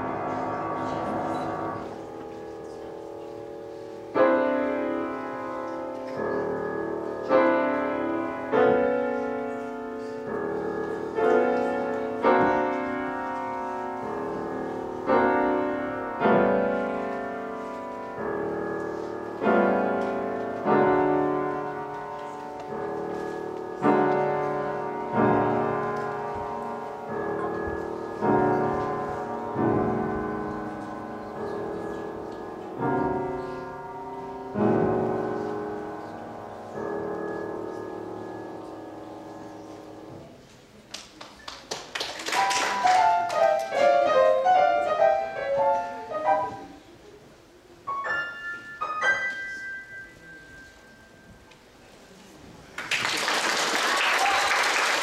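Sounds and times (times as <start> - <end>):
grand piano chords: 0.0 - 40.9, 42.3 - 52.9.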